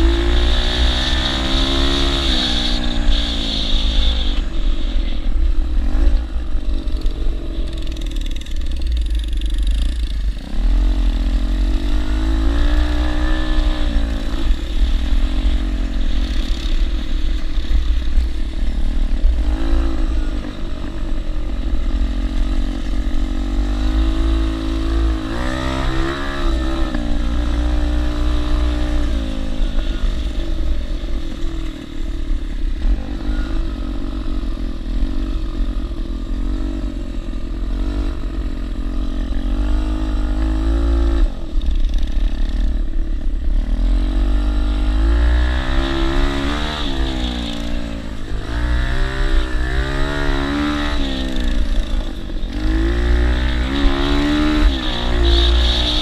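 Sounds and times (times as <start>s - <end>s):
atv engine revving: 0.0s - 32.1s, 32.7s - 56.0s.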